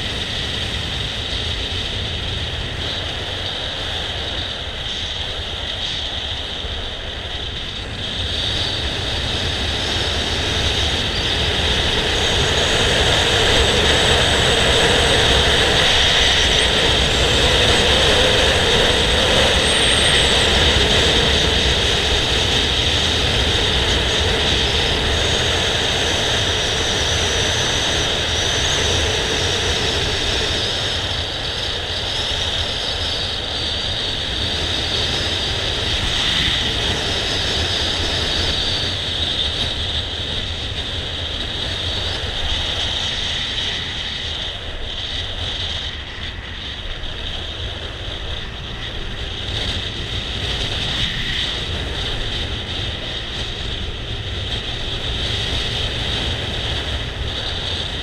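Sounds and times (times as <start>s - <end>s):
rushing wind and road noise: 0.0s - 58.0s.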